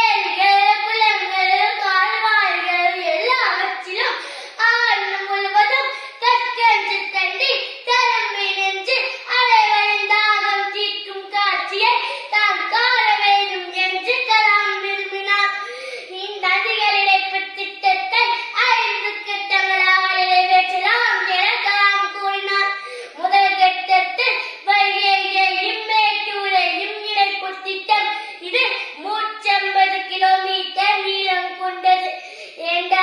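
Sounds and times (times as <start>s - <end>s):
boy declaiming loudly: 0.0s - 33.0s.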